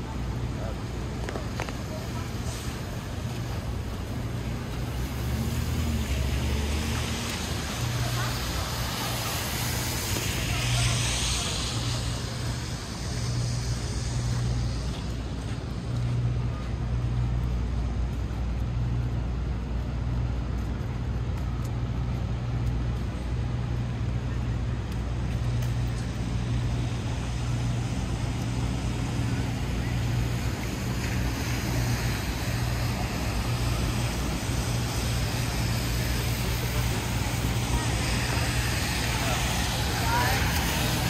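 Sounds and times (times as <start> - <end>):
constant low hum: 0.0 - 41.0
rain: 0.0 - 41.0
traffic noise: 0.0 - 41.0.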